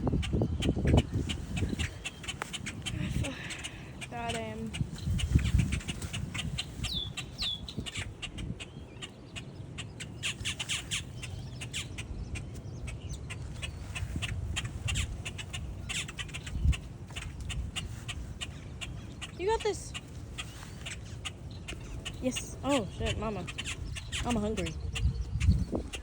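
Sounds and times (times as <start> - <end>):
moorhens clucking and calling: 0.0 - 26.0.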